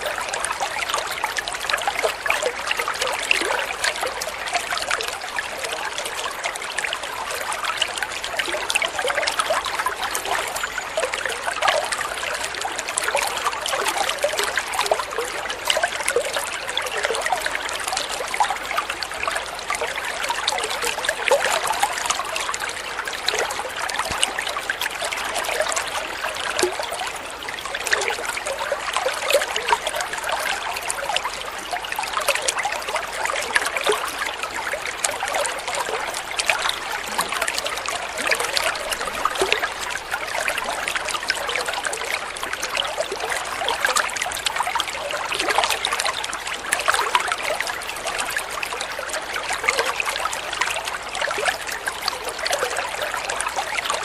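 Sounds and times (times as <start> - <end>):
water flowing and trickling: 0.0 - 54.0.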